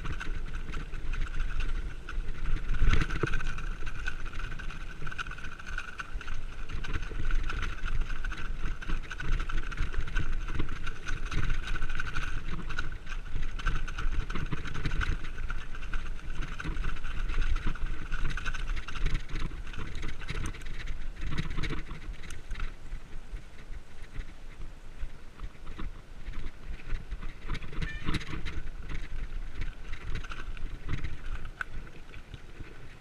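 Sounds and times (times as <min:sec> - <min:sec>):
bike frame rattling: 0:00.0 - 0:33.0
wind on microphone: 0:00.0 - 0:33.0.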